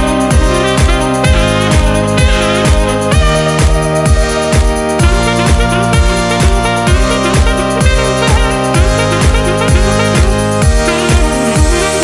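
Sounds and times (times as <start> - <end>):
electronic dance music: 0.0 - 12.0
held synth chords: 0.0 - 12.0
kick drum beats: 0.0 - 12.0.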